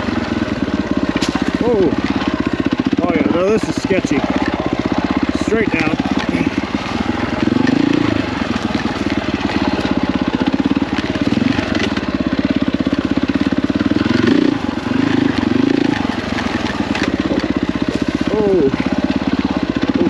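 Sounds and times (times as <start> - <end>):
motorcycle engine chugging: 0.0 - 20.0.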